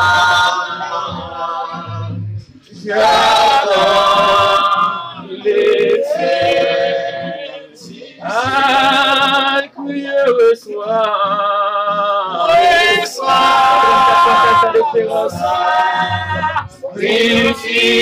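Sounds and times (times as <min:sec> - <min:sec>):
person singing worship song: 0:00.0 - 0:02.1, 0:02.8 - 0:18.0.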